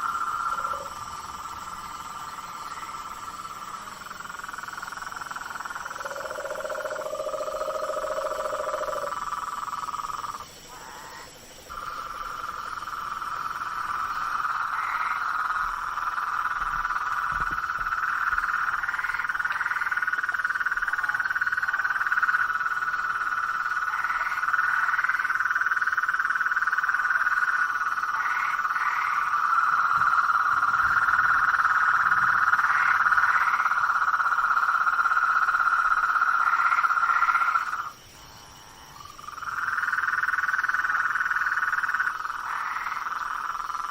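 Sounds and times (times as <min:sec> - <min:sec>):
chorus of frogs calling: 0:00.0 - 0:43.9
higher paired frog calls: 0:00.0 - 0:43.9.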